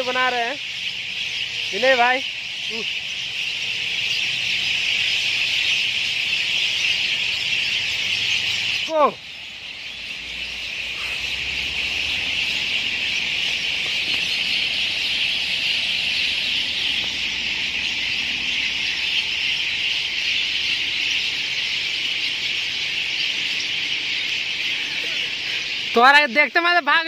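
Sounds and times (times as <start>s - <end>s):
flock of birds chattering: 0.0s - 27.0s.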